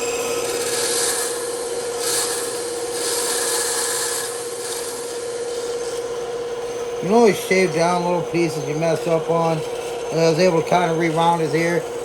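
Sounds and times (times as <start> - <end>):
bandsaw humming: 0.0 - 12.0
blade rasping through wood: 0.0 - 12.0.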